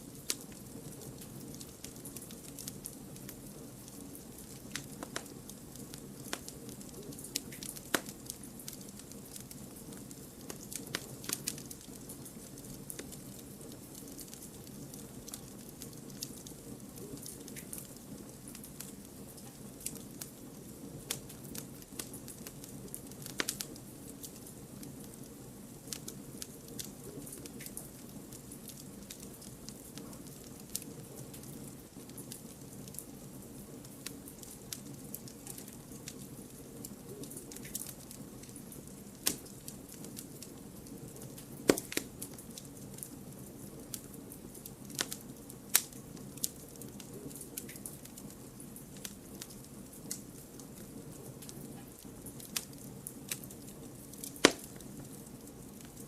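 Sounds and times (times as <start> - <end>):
campfire flames rushing: 0.0 - 56.0
fire crackling and popping: 0.0 - 56.0.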